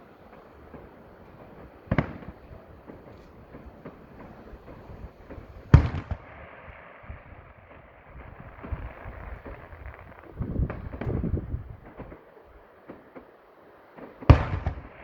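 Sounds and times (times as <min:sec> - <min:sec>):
fireworks exploding: 0:00.0 - 0:15.0
small firework pops: 0:00.0 - 0:15.0.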